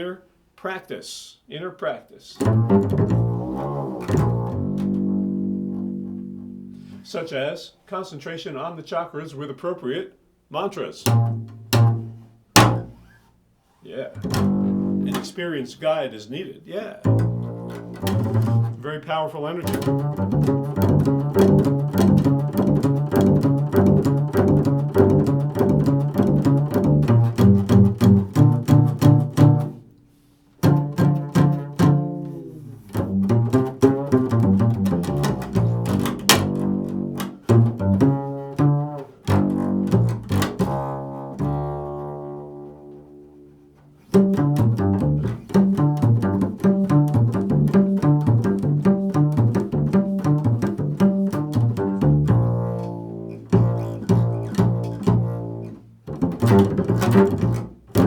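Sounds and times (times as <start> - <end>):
plucked double bass solo: 2.3 - 7.1, 11.0 - 13.2, 14.0 - 16.0, 16.8 - 30.0, 30.6 - 58.0.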